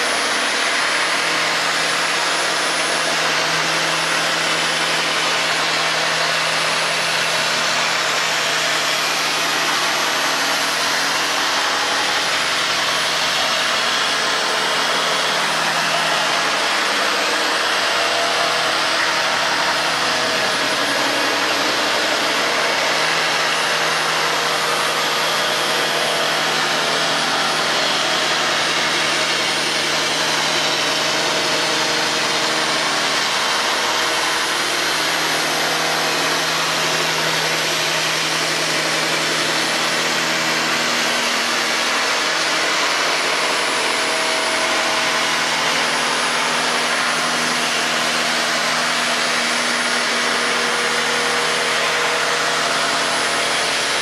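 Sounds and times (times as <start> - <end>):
electric belt sander sanding wood: 0.0 - 54.0.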